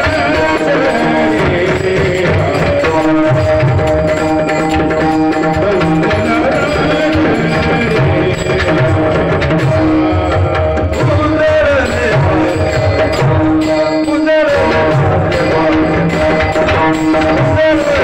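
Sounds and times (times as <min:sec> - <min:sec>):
hand drum rhythm: 0:00.0 - 0:18.0.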